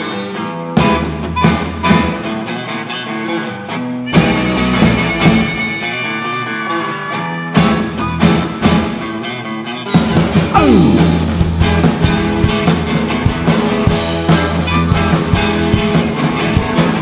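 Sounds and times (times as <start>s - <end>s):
blues-rock band playing: 0.0s - 17.0s.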